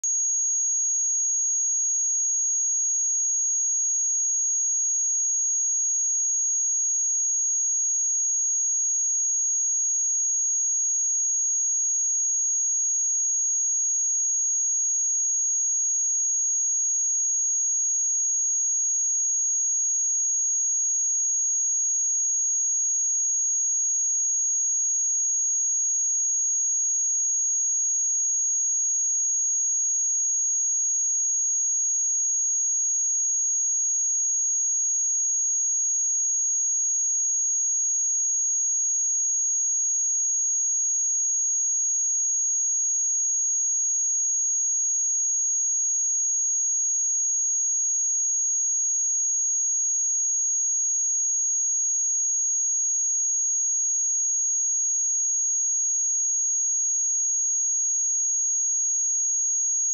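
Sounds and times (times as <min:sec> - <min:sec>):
high-pitched sine test tone: 0:00.0 - 0:59.9.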